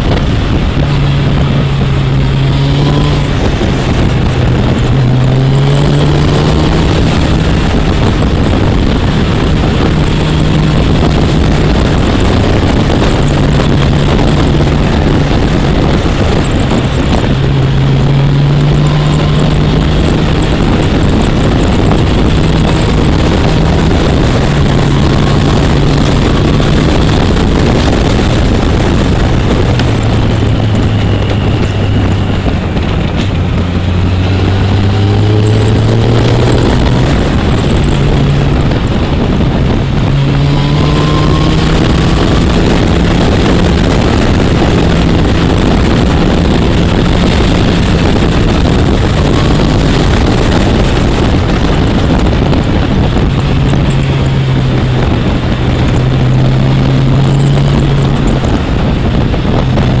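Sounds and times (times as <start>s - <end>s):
motorcycle engine running: 0.0s - 60.0s
rush of wind: 0.0s - 60.0s.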